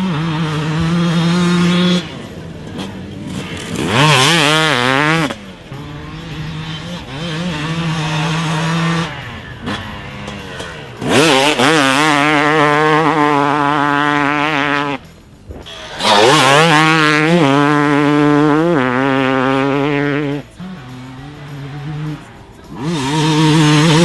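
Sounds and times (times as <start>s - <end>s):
two-stroke dirt bike engine revving: 0.0s - 24.0s.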